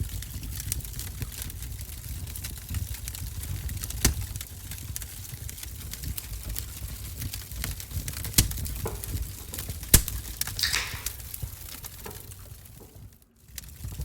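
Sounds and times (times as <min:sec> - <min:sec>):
wood fire crackling: 0:00.0 - 0:14.0
sharp pops of fire: 0:00.2 - 0:14.0.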